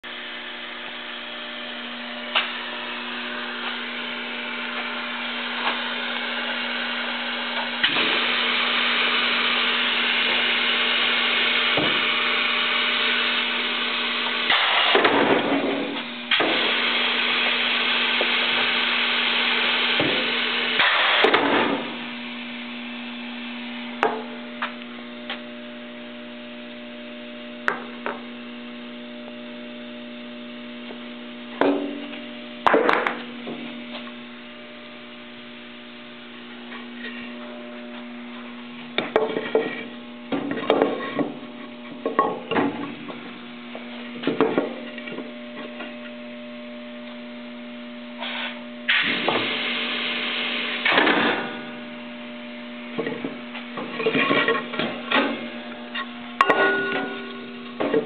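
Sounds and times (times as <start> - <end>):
miter saw motor hum: 0.1 - 32.6, 41.0 - 58.0.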